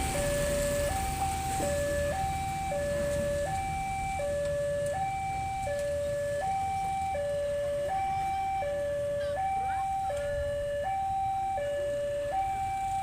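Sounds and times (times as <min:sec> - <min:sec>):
low traffic rumble: 0:00.0 - 0:13.0
two-tone crossing alarm: 0:00.0 - 0:13.0.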